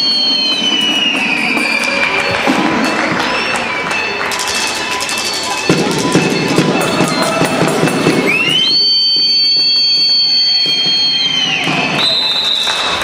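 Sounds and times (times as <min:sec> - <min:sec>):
crowd noise: 0:00.0 - 0:13.0
drum beating: 0:00.0 - 0:13.0.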